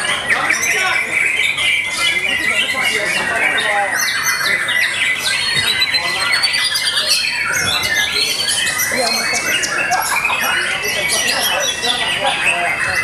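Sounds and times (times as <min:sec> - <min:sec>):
birds singing in chorus: 0:00.0 - 0:13.0.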